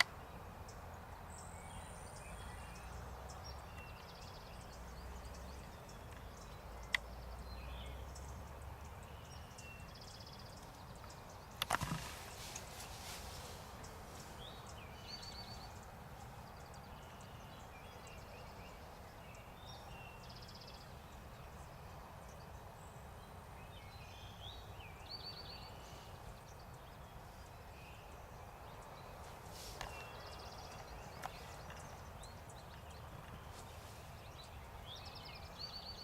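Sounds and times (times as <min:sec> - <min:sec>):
birds chirping and trilling: 0:00.0 - 0:36.0.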